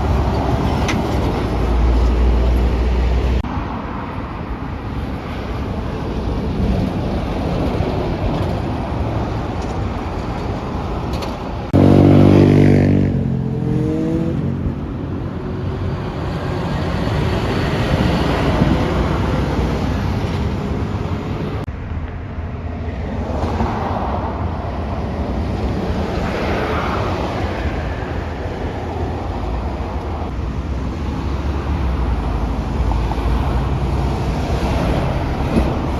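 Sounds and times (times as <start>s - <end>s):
heavy truck traffic rumbling: 0.0s - 35.9s.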